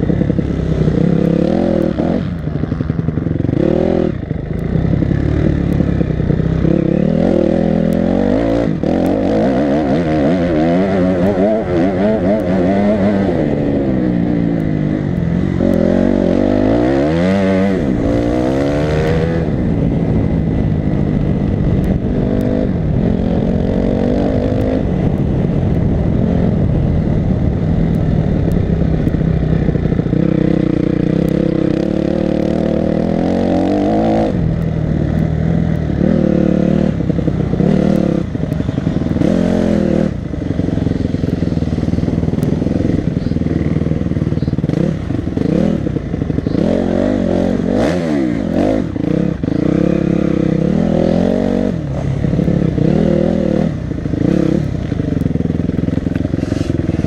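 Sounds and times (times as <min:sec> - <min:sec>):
dirt bike engine revving: 0:00.0 - 0:25.4, 0:28.3 - 0:57.0.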